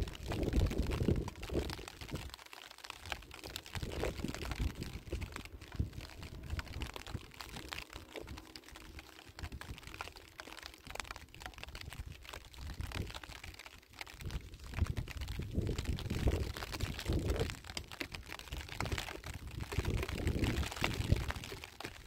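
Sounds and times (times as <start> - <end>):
gravel clicking: 0.0 - 22.0.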